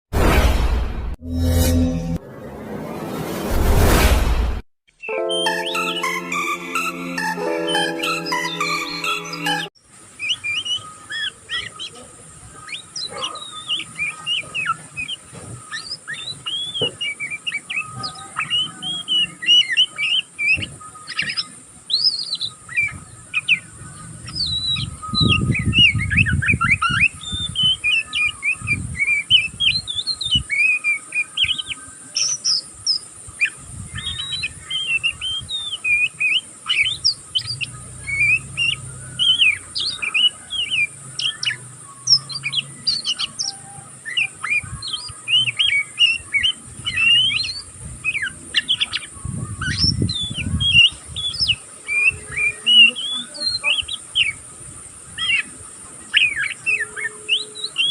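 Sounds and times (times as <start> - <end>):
bird twittering and whistling: 10.2 - 12.0, 12.6 - 54.4, 55.2 - 57.9.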